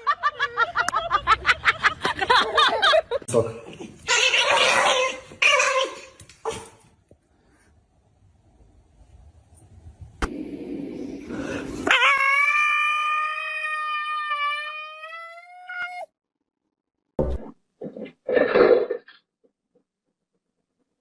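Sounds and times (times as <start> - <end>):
background noise: 0.0 - 16.1, 17.2 - 21.0.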